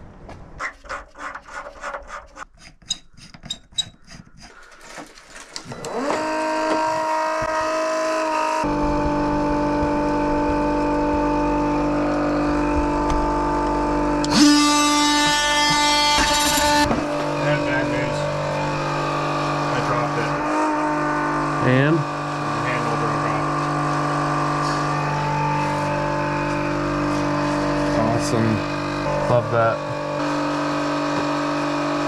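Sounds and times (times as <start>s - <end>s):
transfer pump running: 3.2s - 32.0s
power tool high whine: 5.7s - 32.0s.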